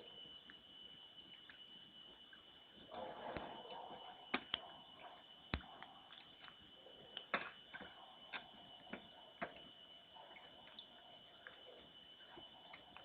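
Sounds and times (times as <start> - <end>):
steady high whine: 0.0 - 13.0.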